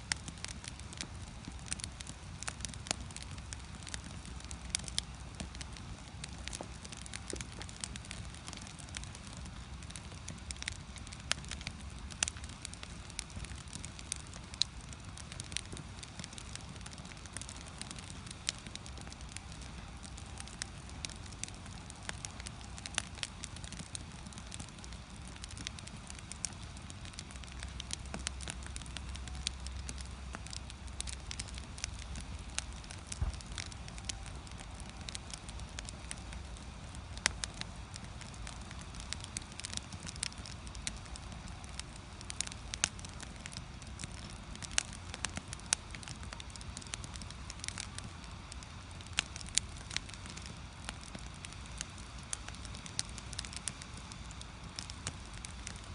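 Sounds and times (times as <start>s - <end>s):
firewood crackling and popping: 0.0s - 55.9s
low fire rumble: 0.0s - 55.9s.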